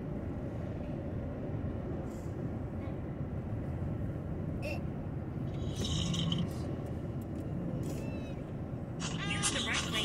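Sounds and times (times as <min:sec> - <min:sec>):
vehicle road rumble: 0:00.0 - 0:10.0.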